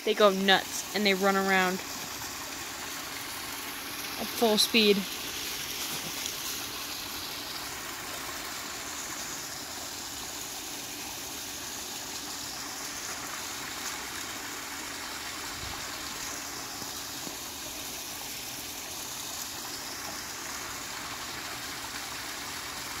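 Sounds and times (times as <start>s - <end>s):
water trickling and splashing: 0.0s - 23.0s.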